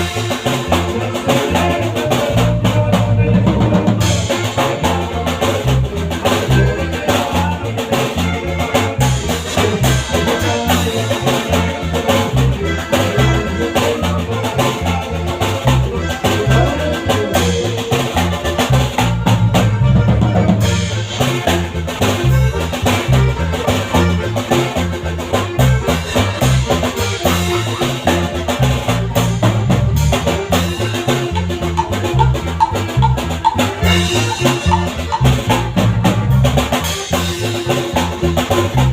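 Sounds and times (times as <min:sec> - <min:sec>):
band playing instrumental music: 0:00.0 - 0:38.9
bass line of short notes: 0:00.0 - 0:38.9
drum kit: 0:00.0 - 0:38.9.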